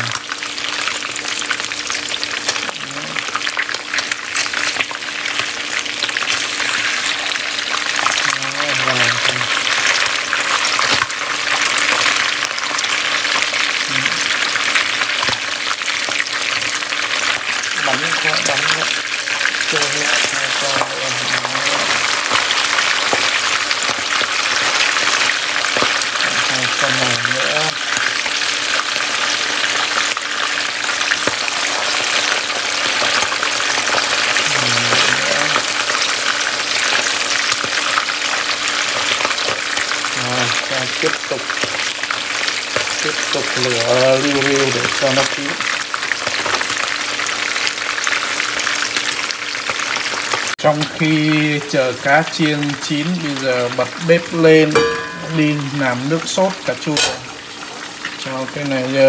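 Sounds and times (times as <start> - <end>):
fish sizzling in hot oil: 0.0 - 59.0.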